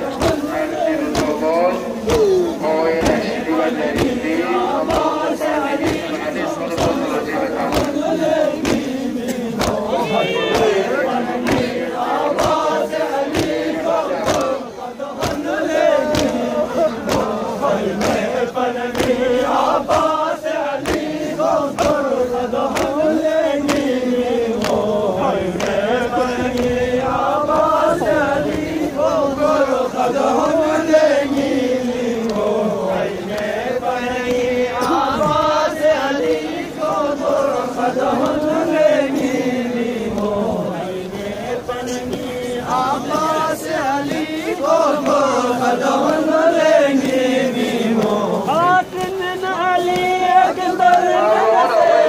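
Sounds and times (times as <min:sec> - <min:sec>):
men chanting a lament: 0:00.0 - 0:52.0.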